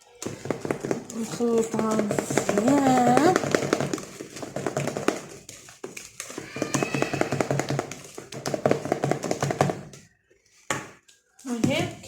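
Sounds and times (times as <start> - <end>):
utensil beating batter in bowl: 0.0 - 12.0.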